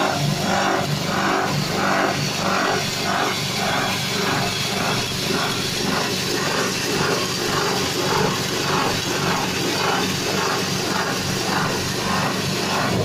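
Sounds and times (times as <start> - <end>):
grinding mill engine running: 0.0 - 13.0.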